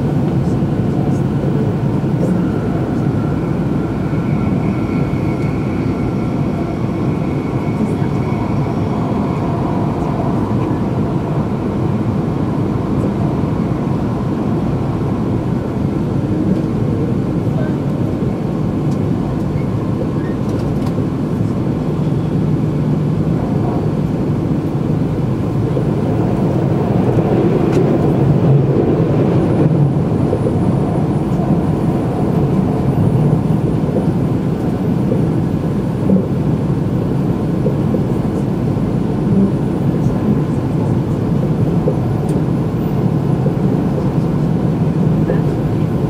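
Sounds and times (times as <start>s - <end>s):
train wheel and track rumble: 0.0s - 46.0s.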